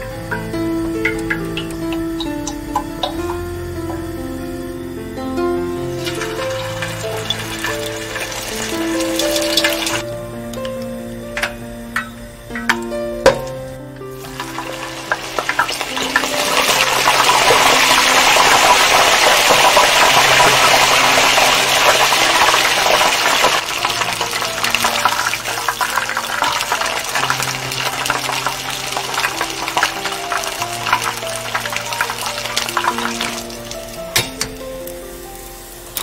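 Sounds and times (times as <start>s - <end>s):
crabs sizzling in hot oil: 0.0s - 36.0s.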